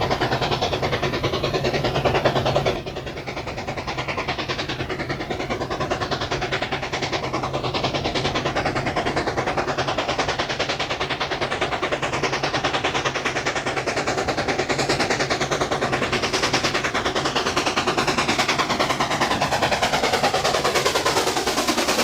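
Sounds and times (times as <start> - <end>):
steam locomotive exhaust beats: 0.0 - 22.0.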